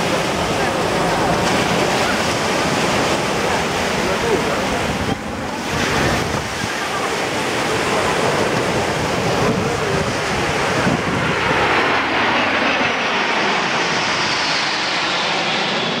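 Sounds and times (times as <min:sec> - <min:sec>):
jets flying overhead: 0:00.0 - 0:16.0.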